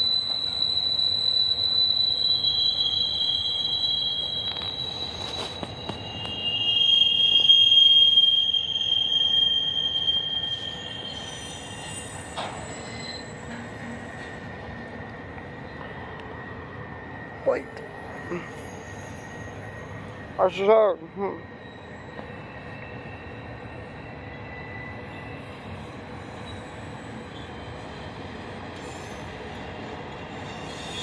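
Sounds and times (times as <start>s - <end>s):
rumble of train cars: 0.0s - 31.0s
train wheels squealing on rails: 0.0s - 31.0s.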